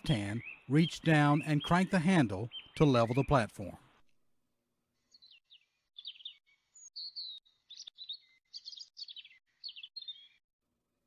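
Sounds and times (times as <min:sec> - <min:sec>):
songbirds chirping and singing: 0:00.0 - 0:04.0, 0:05.1 - 0:10.4.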